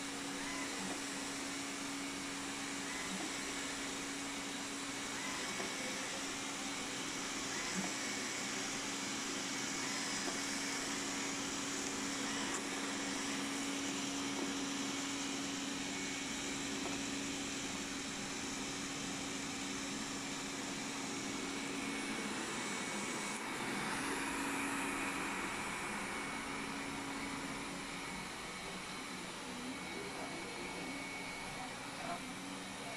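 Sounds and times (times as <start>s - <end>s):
robot vacuum suction fan whirring: 0.0s - 32.9s.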